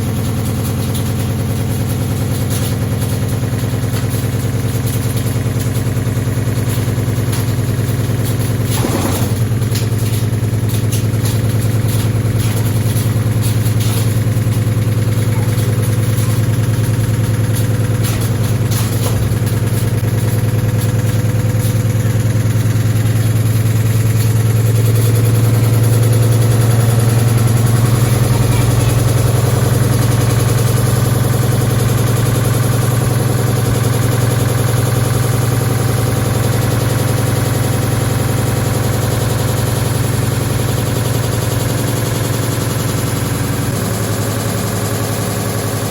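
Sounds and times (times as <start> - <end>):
washing machine spinning unbalanced: 0.0 - 45.9.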